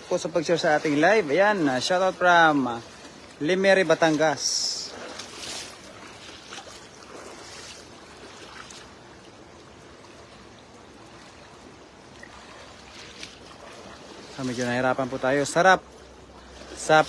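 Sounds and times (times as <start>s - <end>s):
shallow water rushing: 0.0s - 17.0s
wading steps splashing: 0.0s - 17.0s.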